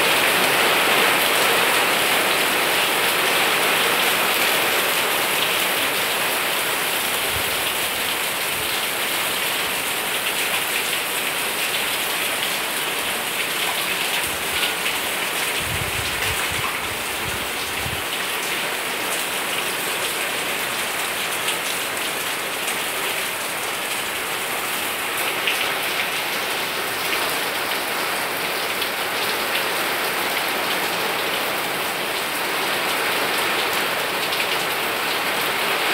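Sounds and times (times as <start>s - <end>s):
steady rain on foliage and roofs: 0.0s - 35.9s.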